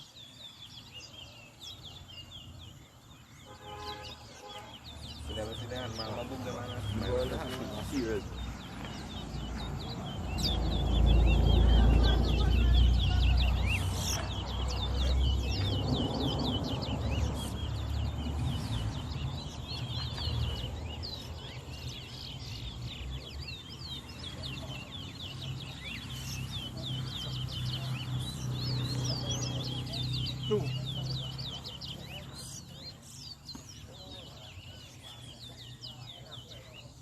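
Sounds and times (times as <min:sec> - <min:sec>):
finches chirping and twittering: 0:00.0 - 0:37.0.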